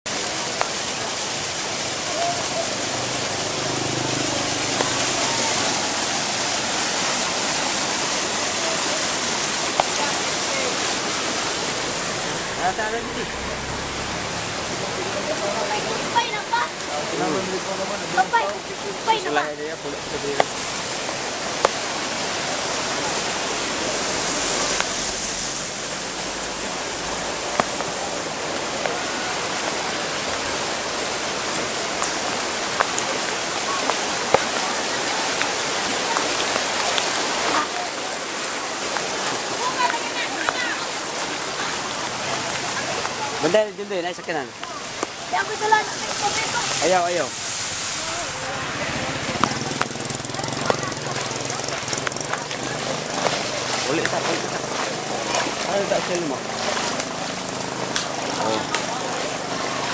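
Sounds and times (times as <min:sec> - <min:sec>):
floodwater rushing: 0:00.1 - 0:59.9.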